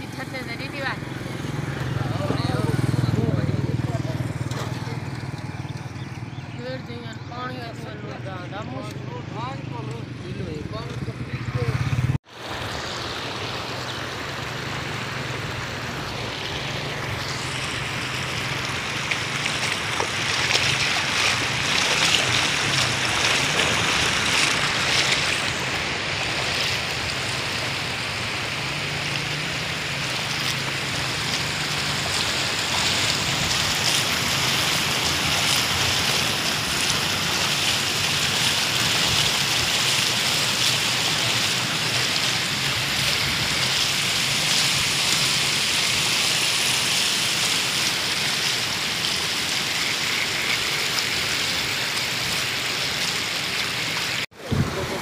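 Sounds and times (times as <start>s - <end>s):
floodwater rushing and splashing: 0.0s - 55.0s.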